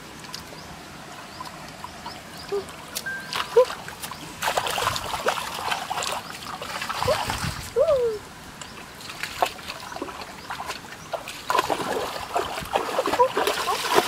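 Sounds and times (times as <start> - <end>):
water splashing from wading: 0.0 - 14.0.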